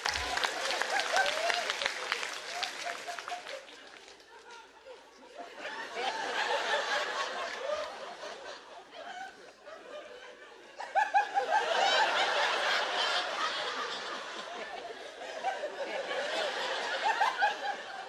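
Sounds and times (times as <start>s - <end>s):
audience laughing: 0.0s - 18.0s.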